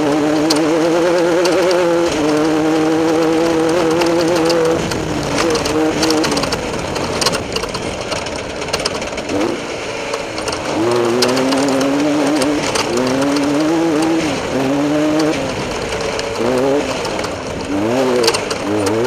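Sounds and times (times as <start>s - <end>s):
race vehicle engine running hard: 0.0s - 19.0s
vehicle clicks and rattles: 0.0s - 19.0s.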